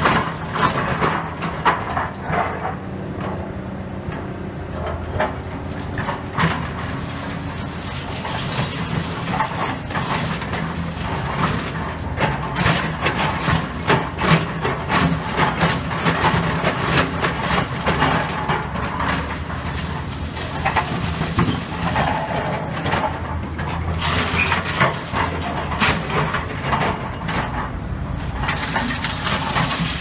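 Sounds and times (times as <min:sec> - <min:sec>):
bucket scraping concrete rubble: 0:00.0 - 0:02.8, 0:04.9 - 0:30.0
metal clanks and crunches: 0:00.0 - 0:03.4, 0:04.1 - 0:30.0
excavator engine running: 0:00.0 - 0:30.0.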